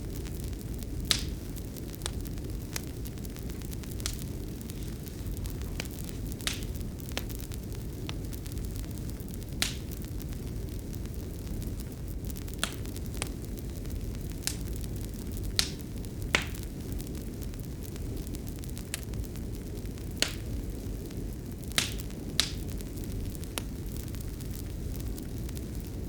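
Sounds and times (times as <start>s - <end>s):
low rumble of burning: 0.0s - 26.0s
sharp pops of fire: 0.0s - 26.0s
wood fire crackling: 0.0s - 26.0s.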